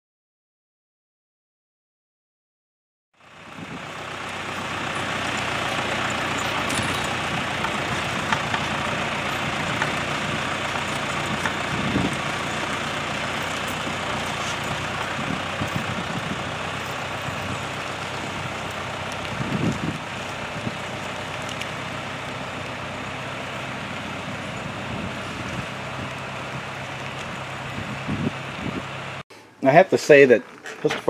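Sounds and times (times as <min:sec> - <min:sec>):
tractor engine running: 0:03.2 - 0:29.2.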